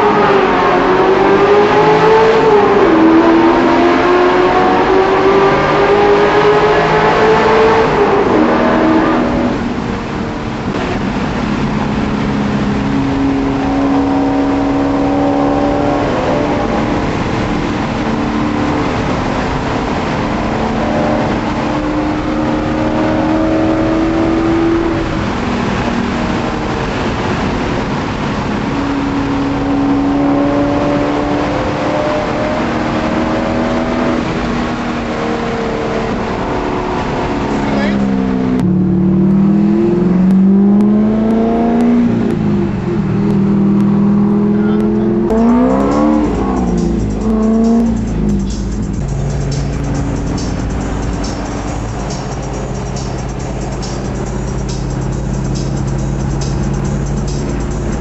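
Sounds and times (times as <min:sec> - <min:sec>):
car engine inside cabin: 0:00.0 - 0:58.0
road and wind noise: 0:00.0 - 0:58.0.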